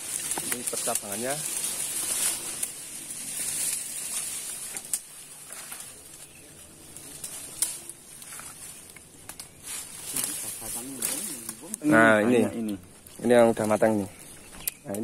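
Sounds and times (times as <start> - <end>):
twigs snapping: 0.0 - 12.0, 12.6 - 15.0.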